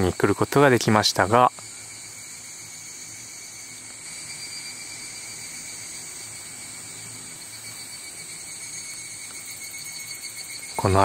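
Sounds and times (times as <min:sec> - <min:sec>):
insects calling shrilly: 0:00.0 - 0:11.0.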